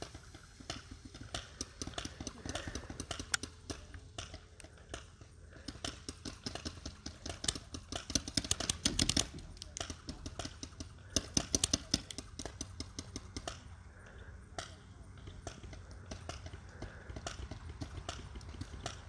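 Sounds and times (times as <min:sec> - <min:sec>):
paintball markers firing: 0:00.0 - 0:19.0.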